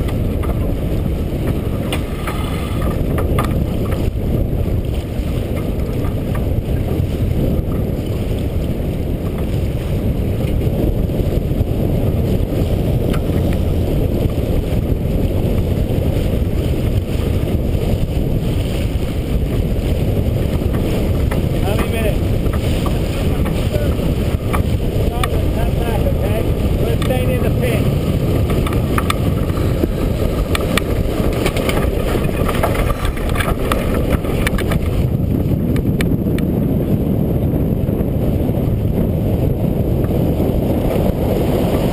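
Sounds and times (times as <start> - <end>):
water rushing along boat hull: 0.0 - 41.9
wind buffeting microphone: 0.0 - 41.9.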